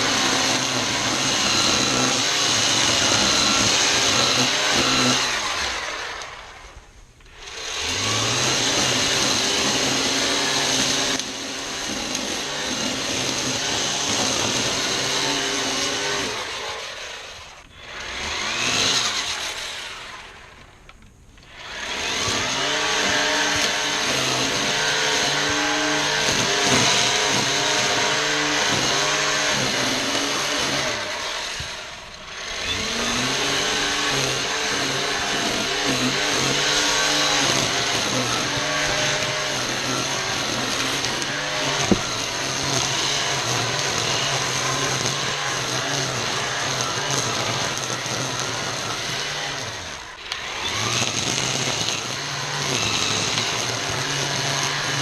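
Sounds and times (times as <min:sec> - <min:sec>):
string trimmer whining: 0:00.0 - 0:55.0.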